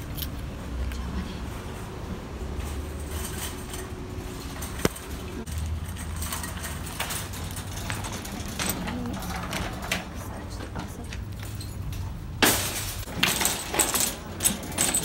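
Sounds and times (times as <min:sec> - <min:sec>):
shopping cart rattling on concrete: 0:02.4 - 0:15.0.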